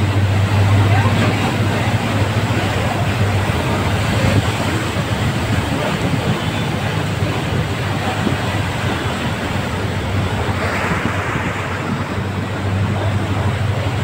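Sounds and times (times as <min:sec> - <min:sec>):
floodwater splashing: 0:00.0 - 0:14.0
vehicle engine hum: 0:00.0 - 0:14.0.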